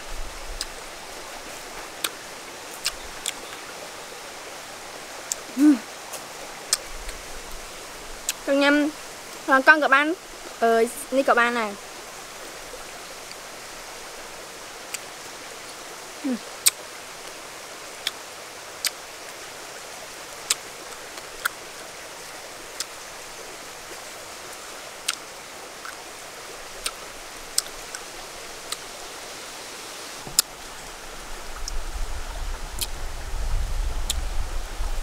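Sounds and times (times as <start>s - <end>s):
stream rushing: 0.0s - 35.0s.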